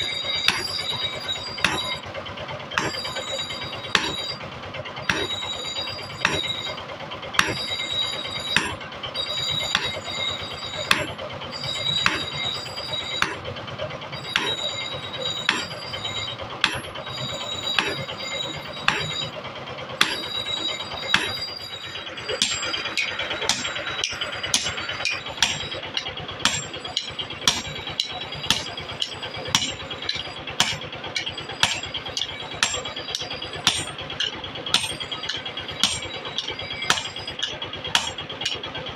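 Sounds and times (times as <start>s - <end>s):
hammer ringing on anvil: 0.0s - 38.9s.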